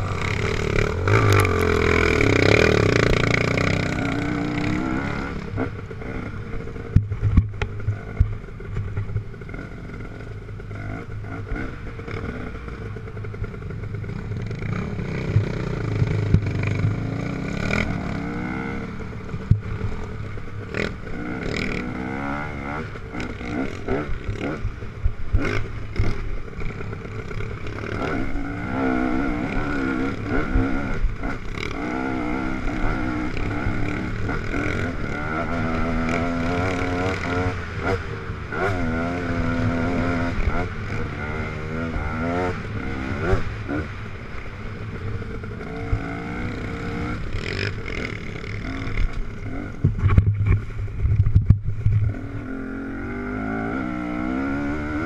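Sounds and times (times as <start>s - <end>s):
dirt bike engine revving: 0.0s - 8.4s, 9.0s - 51.3s, 52.0s - 55.0s.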